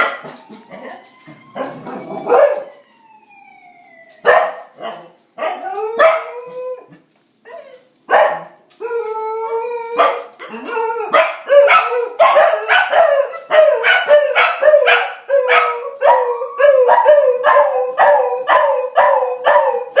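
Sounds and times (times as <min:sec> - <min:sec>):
dogs howling: 0:00.0 - 0:07.8, 0:08.8 - 0:20.0.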